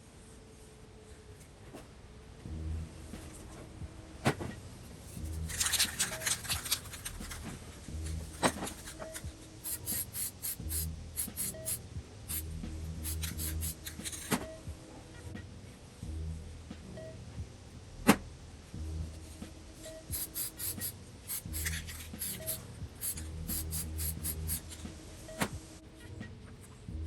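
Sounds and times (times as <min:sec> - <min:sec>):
background music with repeating beat: 0:02.4 - 0:27.0.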